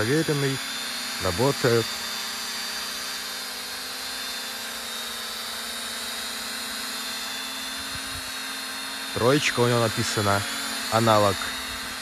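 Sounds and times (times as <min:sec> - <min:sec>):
quadcopter propellers humming: 0:00.0 - 0:12.0.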